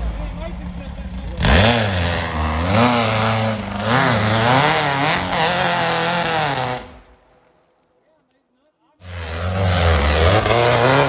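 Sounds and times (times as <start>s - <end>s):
buggy engine revving: 0.0s - 7.2s, 9.0s - 11.0s.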